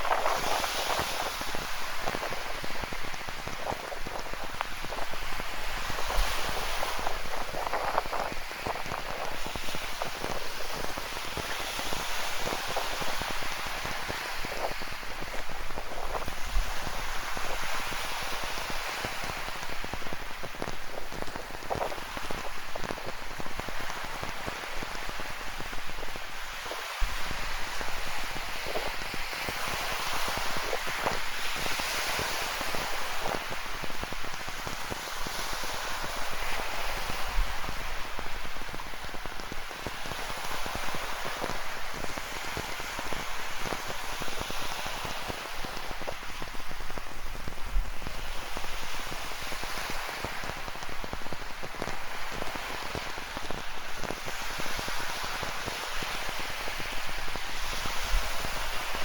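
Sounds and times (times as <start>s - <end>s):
steady rain drops hitting: 0.0s - 57.4s
ocean surf washing: 0.0s - 59.0s.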